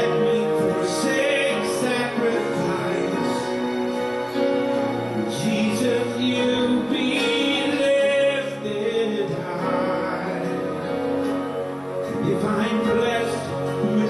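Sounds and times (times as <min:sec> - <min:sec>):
church worship music: 0:00.0 - 0:14.0.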